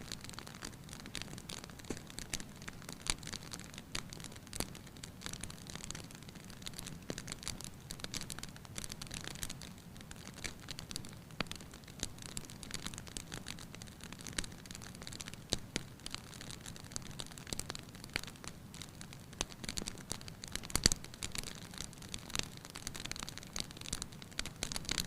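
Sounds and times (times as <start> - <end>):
low hiss and rumble of fire: 0.0 - 25.0
wood fire crackling and popping: 0.0 - 25.0.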